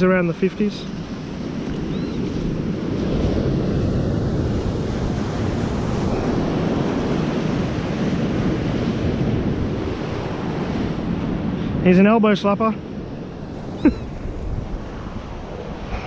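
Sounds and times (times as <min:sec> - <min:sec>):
surf breaking on a beach: 0:00.0 - 0:16.0
wind buffeting microphone: 0:00.0 - 0:16.0.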